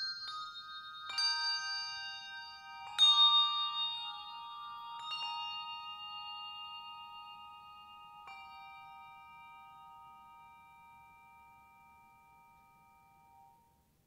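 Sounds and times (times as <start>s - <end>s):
handbell choir ringing: 0.0s - 13.5s.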